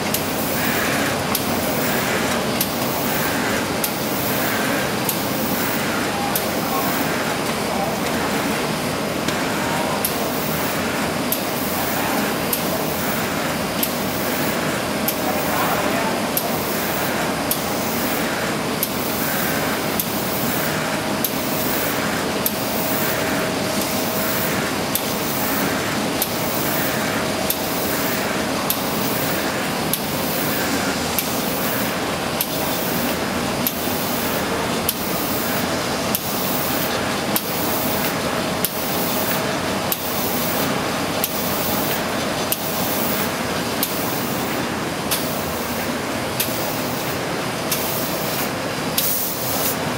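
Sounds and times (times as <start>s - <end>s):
laminating machine hiss and hum: 0.0s - 49.9s.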